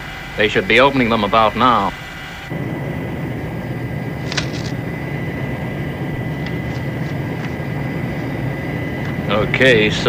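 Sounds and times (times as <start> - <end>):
aircraft engine drone: 0.0 - 10.0.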